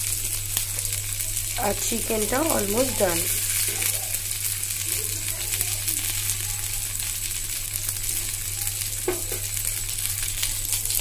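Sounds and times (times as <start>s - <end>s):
skewers sizzling in oil: 0.0s - 11.0s.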